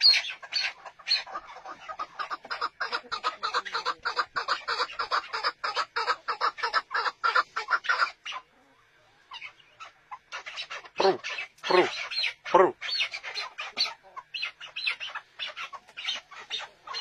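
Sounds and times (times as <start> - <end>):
partridges chattering calls: 0.0 - 8.5, 9.3 - 17.0.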